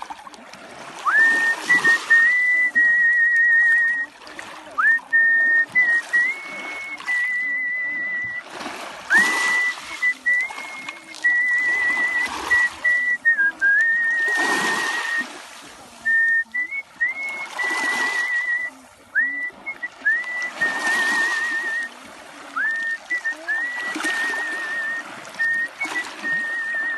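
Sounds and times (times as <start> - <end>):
person whistling a melody: 1.0 - 8.5, 9.1 - 15.4, 16.0 - 26.9.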